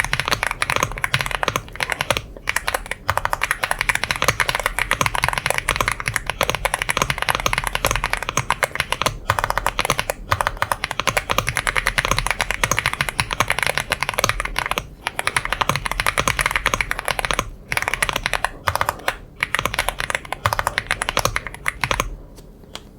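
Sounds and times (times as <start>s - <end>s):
fast typing on mechanical keyboard: 0.0s - 22.2s.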